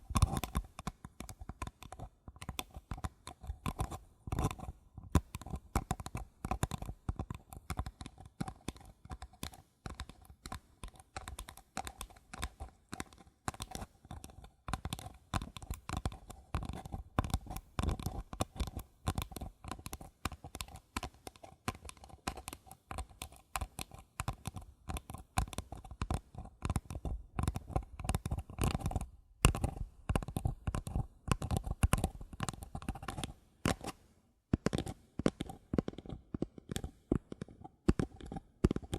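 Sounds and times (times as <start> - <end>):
fingers tapping paper cups: 0.0 - 38.9.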